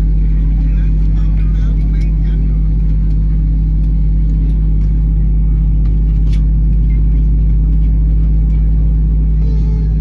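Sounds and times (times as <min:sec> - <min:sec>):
airplane cabin hum: 0:00.0 - 0:10.0.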